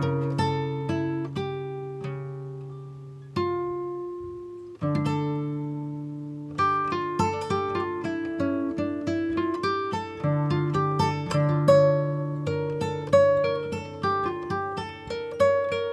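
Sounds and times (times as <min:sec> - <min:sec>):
plucked string instrument music: 0:00.0 - 0:15.9.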